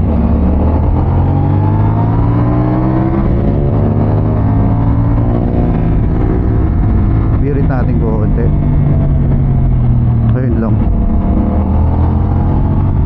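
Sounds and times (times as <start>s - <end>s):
motorcycle engine accelerating: 0.0s - 13.0s
wind noise: 0.0s - 13.0s.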